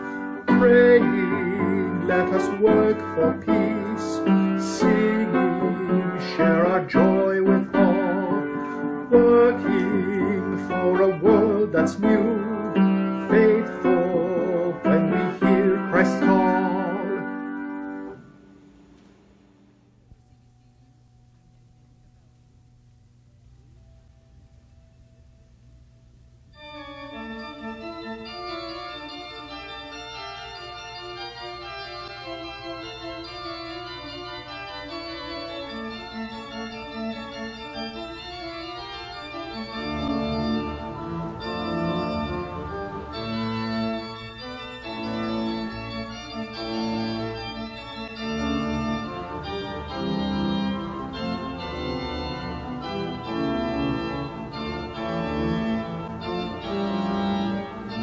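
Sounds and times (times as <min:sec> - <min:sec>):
organ chords: 0:00.0 - 0:58.0.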